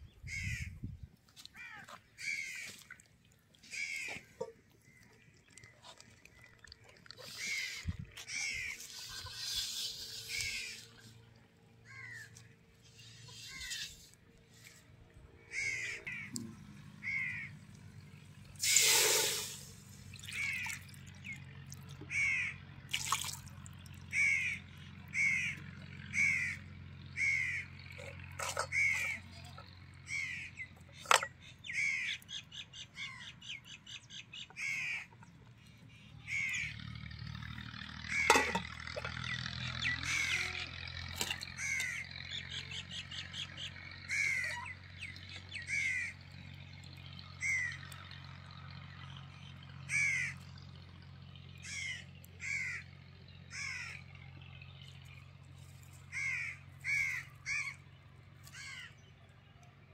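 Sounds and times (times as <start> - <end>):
birds calling: 0.0 - 22.8, 24.0 - 59.2.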